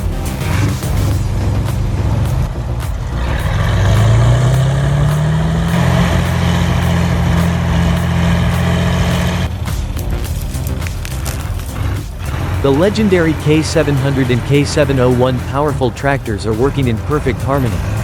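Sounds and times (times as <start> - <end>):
heavy vehicle engine revving: 0.0 - 18.0.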